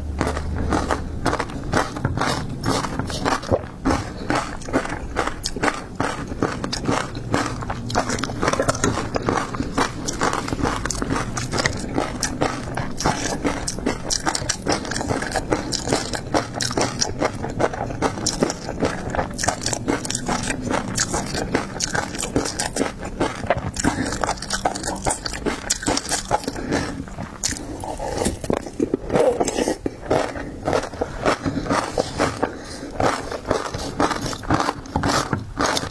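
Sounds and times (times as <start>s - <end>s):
crunching and wet chewing: 0.0s - 35.9s.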